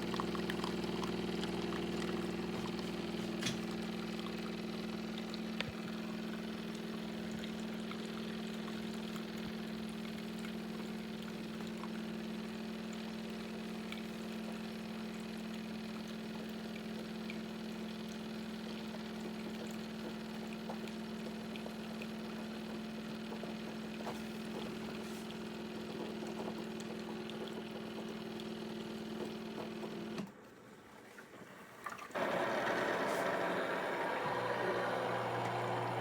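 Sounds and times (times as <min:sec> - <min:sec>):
coffee maker humming: 0:00.0 - 0:36.0.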